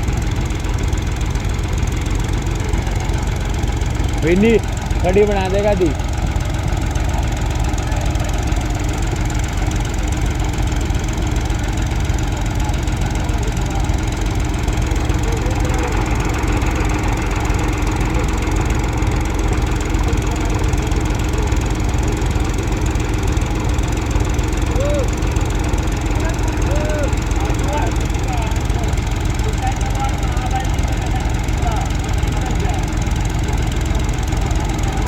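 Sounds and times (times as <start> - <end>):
tractor diesel engines running: 0.0 - 35.0.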